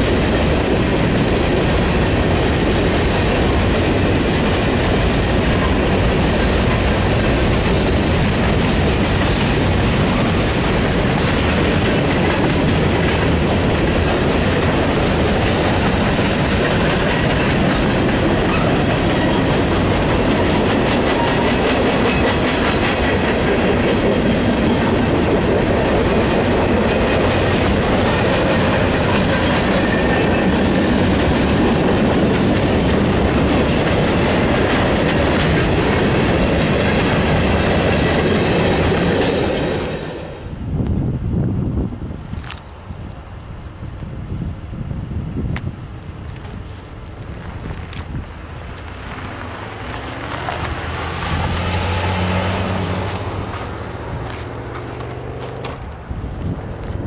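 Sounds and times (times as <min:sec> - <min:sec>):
freight train rolling past: 0:00.0 - 0:42.4, 0:43.0 - 0:57.0.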